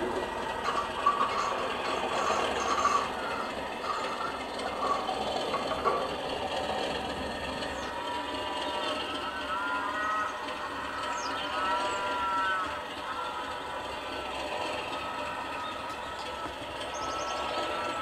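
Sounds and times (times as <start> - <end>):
model locomotive horn blasts: 0.0 - 18.0
model wagons rumbling on track: 0.0 - 18.0.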